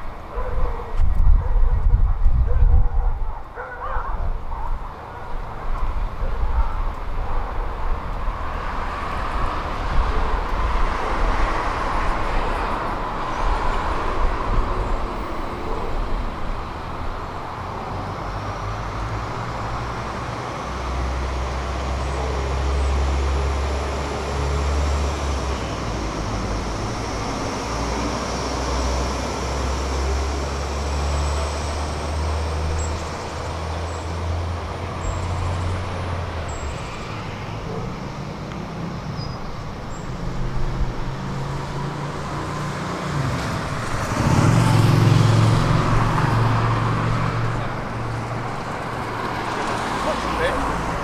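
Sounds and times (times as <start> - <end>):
vehicle passing: 3.6 - 51.0.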